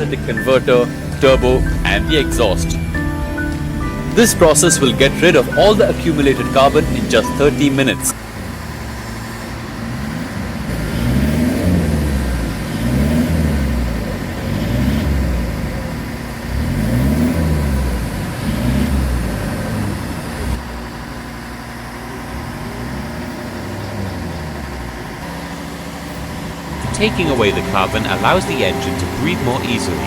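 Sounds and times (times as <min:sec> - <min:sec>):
car engine revving: 0:00.0 - 0:04.5, 0:05.3 - 0:21.0, 0:21.6 - 0:30.0.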